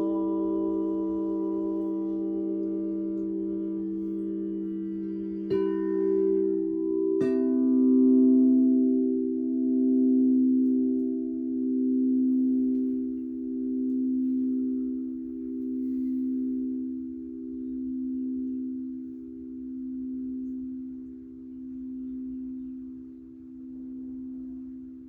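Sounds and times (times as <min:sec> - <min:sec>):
singing bowl ringing: 0:00.0 - 0:25.0.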